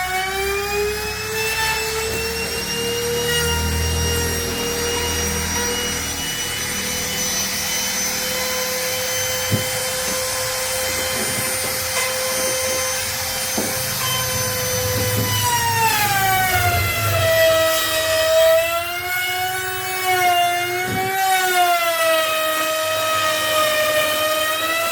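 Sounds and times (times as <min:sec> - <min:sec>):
power tool high whine: 0:00.0 - 0:24.9.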